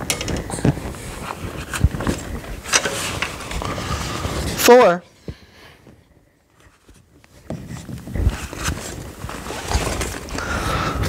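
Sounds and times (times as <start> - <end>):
fabric bag rustling and scraping: 0.5 - 5.0, 5.8 - 10.6.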